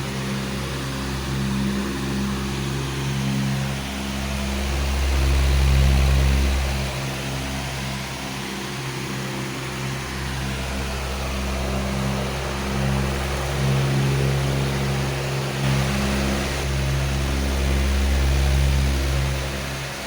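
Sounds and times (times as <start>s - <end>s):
electric fan air rush: 0.0s - 20.0s
fan motor hum: 0.0s - 20.0s.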